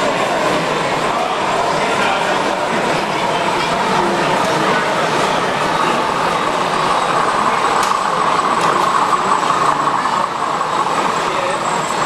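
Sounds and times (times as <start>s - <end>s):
background hubbub: 0.0s - 12.0s
model train running on track: 0.0s - 12.0s.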